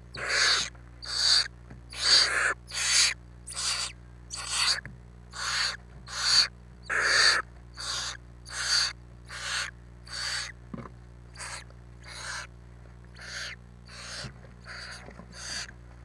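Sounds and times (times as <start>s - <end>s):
owl chicks hissing: 0.1s - 10.5s, 11.3s - 12.5s, 13.1s - 15.7s.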